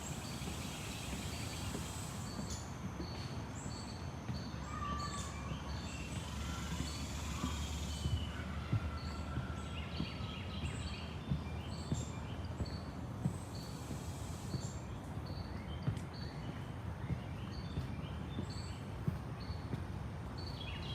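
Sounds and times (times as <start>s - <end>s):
birds chirping: 0.0s - 19.7s.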